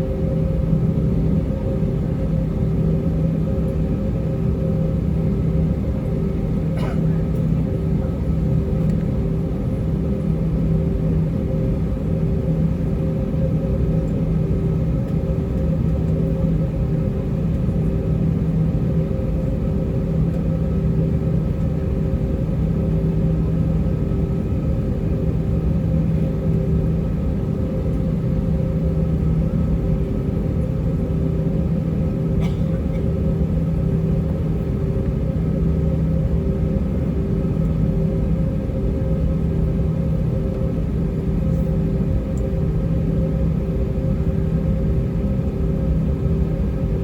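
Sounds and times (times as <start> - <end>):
jet engines humming in cabin: 0.0 - 47.0.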